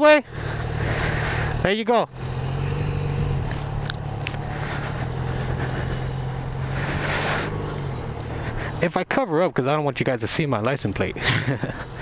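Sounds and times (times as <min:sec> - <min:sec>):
motorcycle engine idling: 0:00.2 - 0:09.8, 0:10.8 - 0:12.0.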